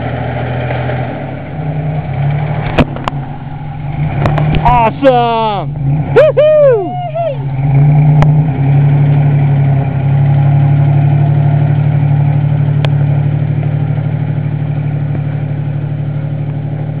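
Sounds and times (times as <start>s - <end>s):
truck engine running at low revs: 0.0s - 17.0s.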